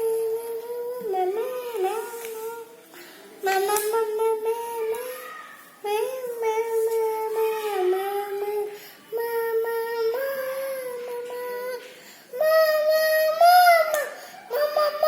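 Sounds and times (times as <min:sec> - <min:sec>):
child singing held notes: 0:00.0 - 0:15.0.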